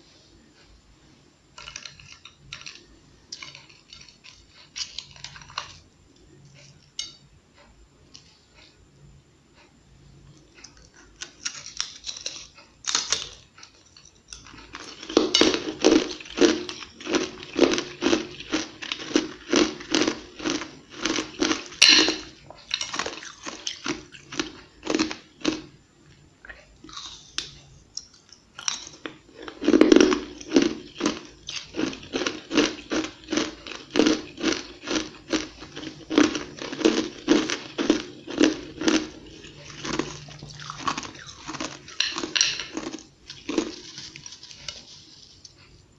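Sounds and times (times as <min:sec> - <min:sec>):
ice being chewed: 0:01.6 - 0:05.8, 0:10.4 - 0:25.7, 0:26.8 - 0:45.8.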